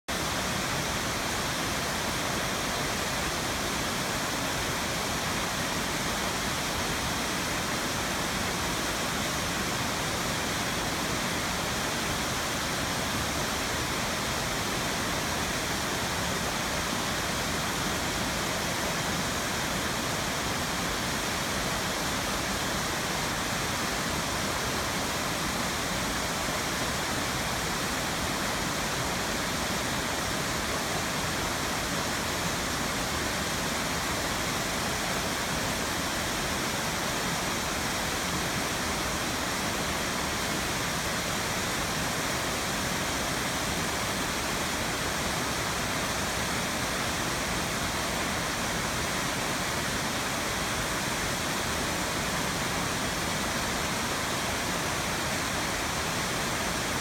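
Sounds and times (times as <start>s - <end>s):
waterfall rushing: 0.1s - 57.0s.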